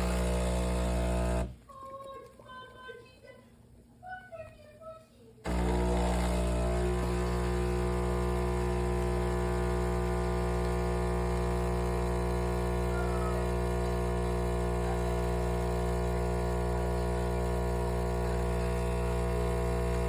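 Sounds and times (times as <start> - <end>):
espresso machine humming: 0.0 - 1.6, 5.5 - 20.0.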